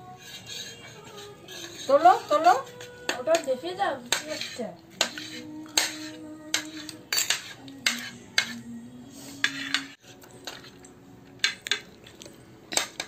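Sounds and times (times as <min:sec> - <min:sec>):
spoon clinking and scraping a plate: 0:00.0 - 0:13.0.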